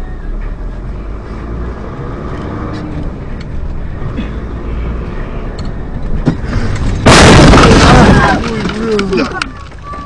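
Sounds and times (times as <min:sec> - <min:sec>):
car engine rumble: 0:00.0 - 0:10.0
tyres on road: 0:00.0 - 0:10.0.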